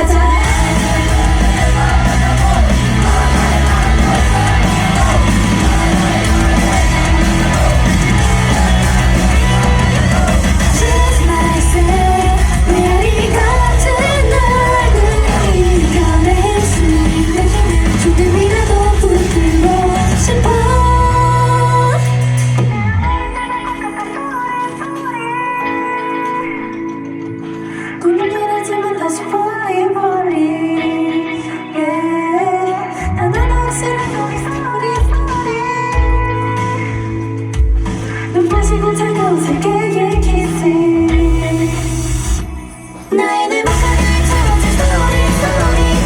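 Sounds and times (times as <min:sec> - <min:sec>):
women singing: 0:00.0 - 0:26.8, 0:28.0 - 0:37.3, 0:38.2 - 0:46.0
pop backing track over pa: 0:00.0 - 0:46.0.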